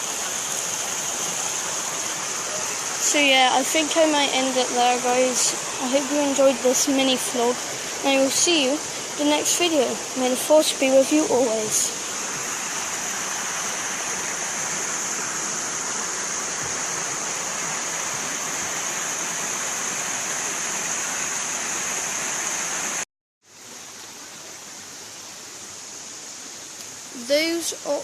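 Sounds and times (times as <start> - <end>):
river and waterfalls rushing: 0.0 - 23.0, 23.7 - 28.0.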